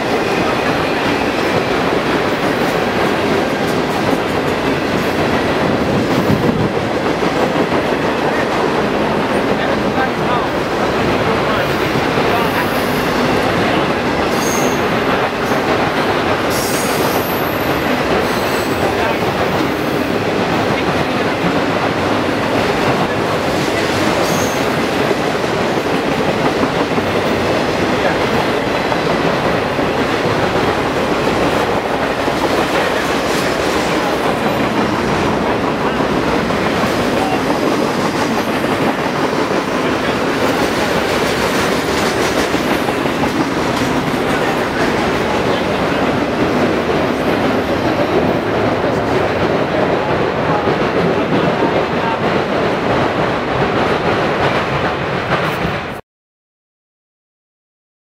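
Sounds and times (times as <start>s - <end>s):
freight train wheels rushing: 0.0s - 56.0s.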